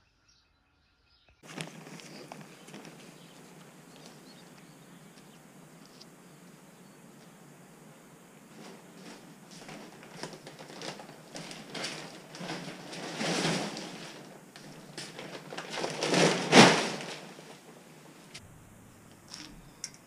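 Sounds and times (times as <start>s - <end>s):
plastic wrapping rustling and crackling: 1.4s - 18.4s.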